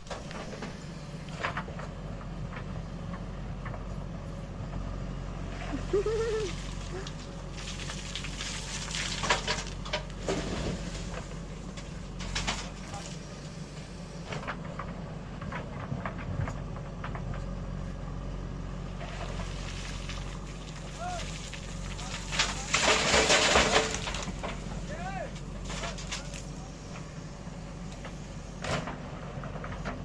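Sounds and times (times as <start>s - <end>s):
diesel engine humming: 0.0s - 30.0s.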